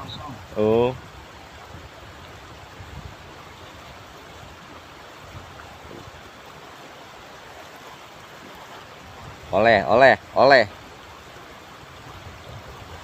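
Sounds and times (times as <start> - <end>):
river water flowing over stones: 0.0 - 13.0.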